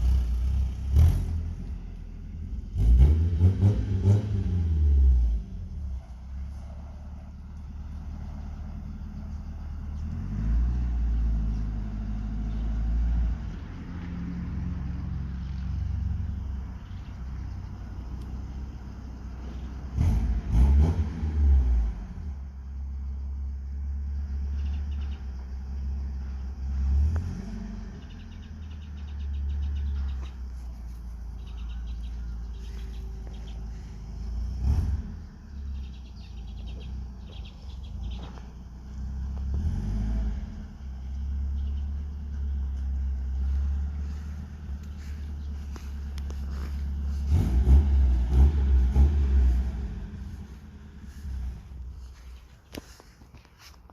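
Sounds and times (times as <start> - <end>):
engine idling and revving: 0.0 - 53.9.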